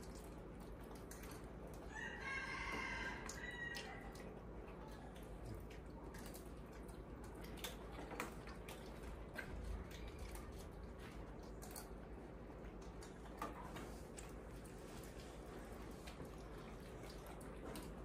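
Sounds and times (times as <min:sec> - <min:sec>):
low steady hum: 0:00.0 - 0:18.0
monkeys eating with wet smacks: 0:00.0 - 0:18.0.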